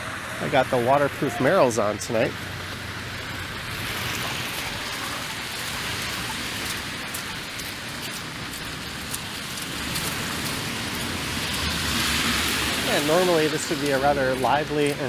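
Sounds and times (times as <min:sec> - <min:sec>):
freezing rain hissing: 0:00.0 - 0:15.0.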